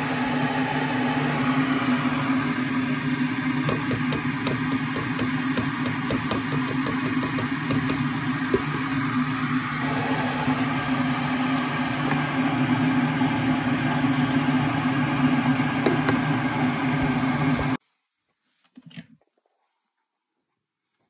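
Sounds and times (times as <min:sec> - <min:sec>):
electric kettle rushing hiss: 0:00.0 - 0:17.8.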